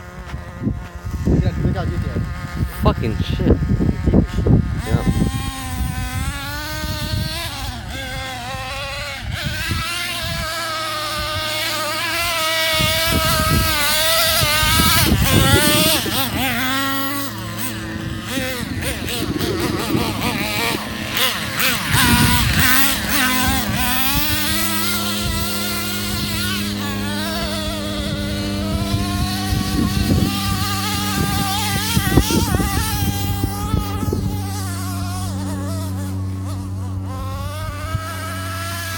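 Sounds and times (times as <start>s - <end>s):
small nitro engine whining: 0.0s - 38.9s.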